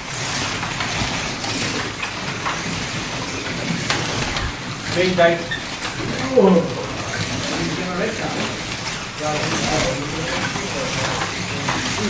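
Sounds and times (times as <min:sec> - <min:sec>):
slot cars rattling: 0:00.0 - 0:12.0.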